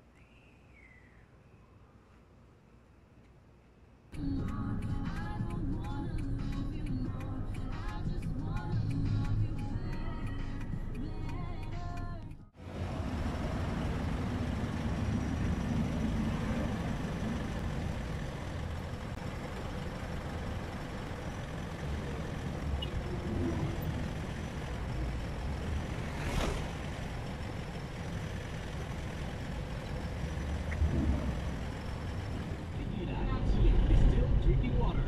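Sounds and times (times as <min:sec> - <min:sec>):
vehicles idling and passing: 0:00.0 - 0:35.0.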